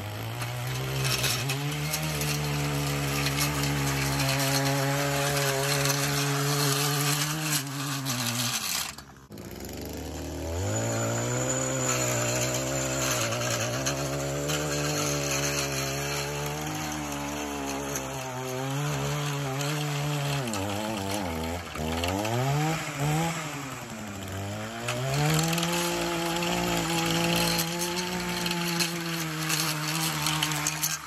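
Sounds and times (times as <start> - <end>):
blade cutting turf: 0.0 - 31.0.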